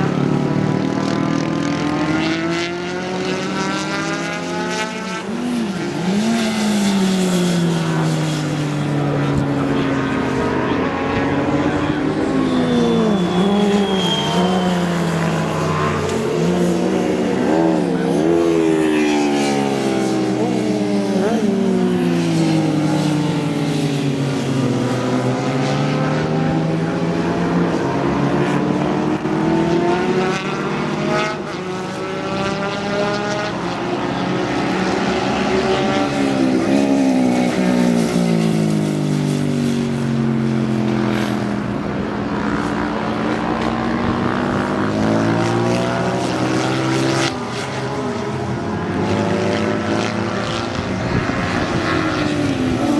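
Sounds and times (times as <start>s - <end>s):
racing motorcycle engines revving: 0.0s - 52.9s.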